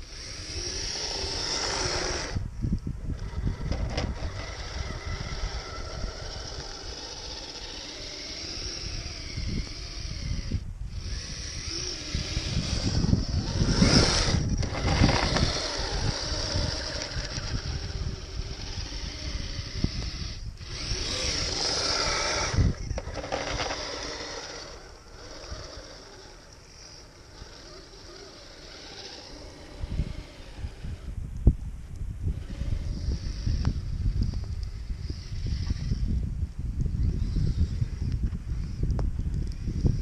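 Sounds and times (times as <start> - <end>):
electric motor and gears whining: 0.0 - 40.0.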